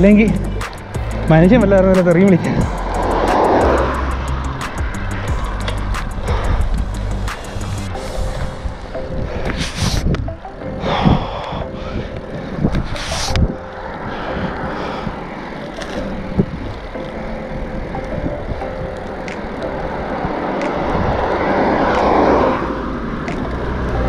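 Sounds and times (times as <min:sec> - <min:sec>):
road and wind noise: 0:00.0 - 0:24.0
vehicle passing on wet road: 0:00.4 - 0:09.5, 0:12.4 - 0:24.0.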